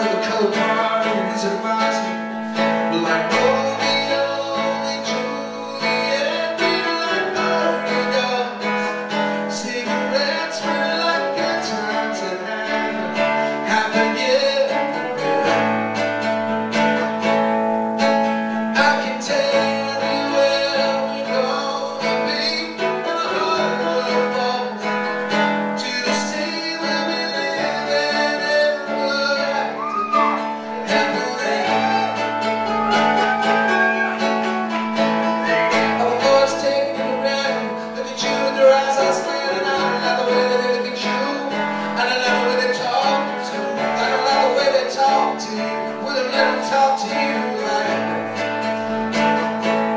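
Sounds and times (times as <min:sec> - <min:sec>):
man singing: 0:00.0 - 0:17.4, 0:18.0 - 0:49.7
strummed acoustic guitar: 0:00.0 - 0:49.9.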